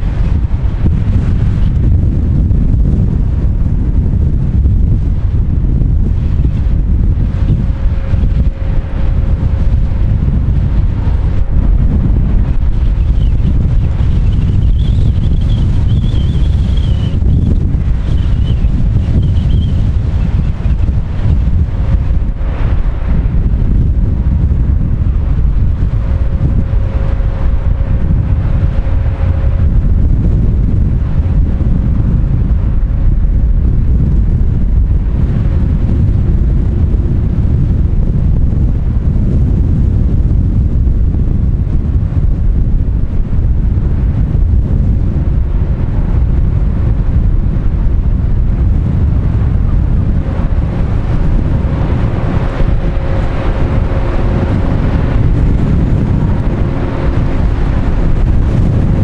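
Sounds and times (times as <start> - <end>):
faint steady hum: 0.0 - 59.0
low rumble of ship engines: 0.0 - 59.0
wind buffeting microphone: 0.0 - 59.0.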